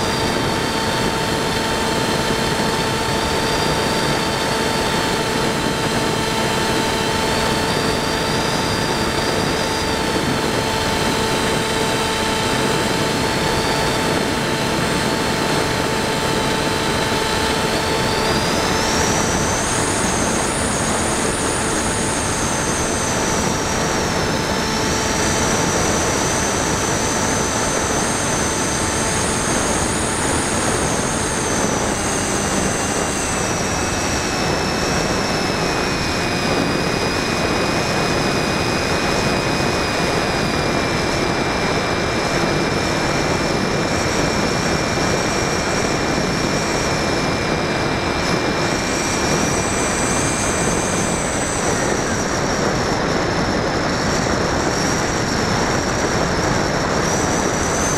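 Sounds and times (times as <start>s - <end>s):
rc plane electric motor whine: 0.0s - 57.9s.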